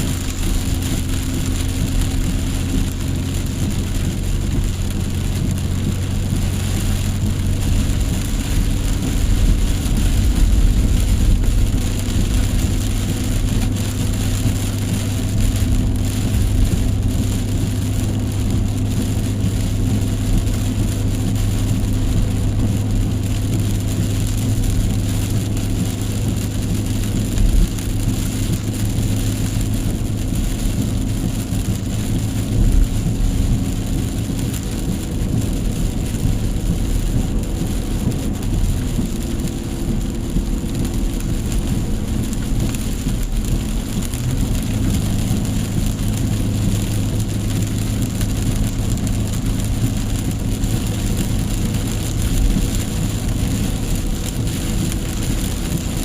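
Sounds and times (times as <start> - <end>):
car driving drone: 0.0 - 56.0
heavy rain falling: 0.0 - 56.0.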